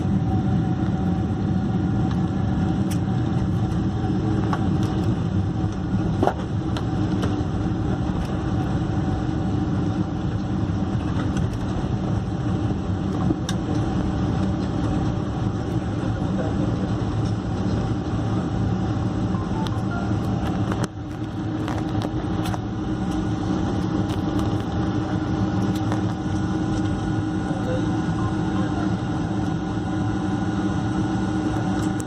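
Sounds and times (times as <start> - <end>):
jet engines idling: 0.0 - 32.0
low cabin hum: 0.0 - 32.0.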